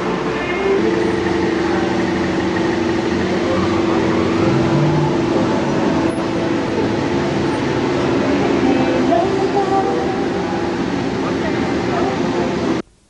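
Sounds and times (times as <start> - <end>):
car engines rolling past: 0.0 - 12.8
dense background din: 0.0 - 12.8.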